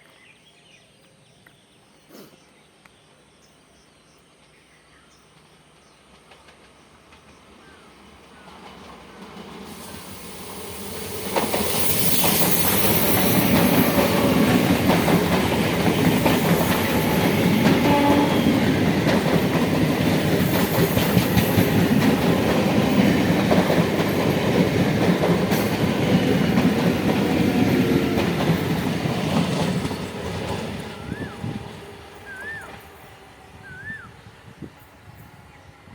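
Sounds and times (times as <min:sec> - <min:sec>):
electric train passing at speed: 0:04.8 - 0:35.9.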